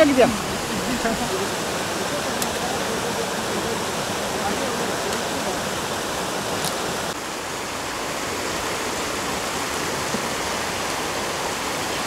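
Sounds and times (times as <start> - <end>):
shallow river rushing: 0.0 - 12.0.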